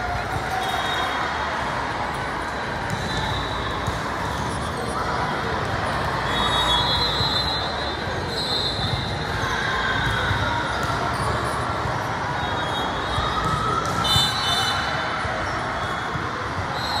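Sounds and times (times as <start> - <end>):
balls bouncing on court: 0.0 - 7.4, 8.0 - 17.0
many voices chattering: 0.0 - 17.0.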